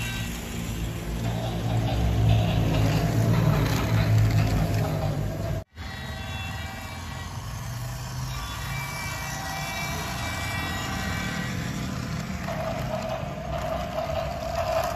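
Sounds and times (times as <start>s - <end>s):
toy trains whirring: 0.0s - 14.9s.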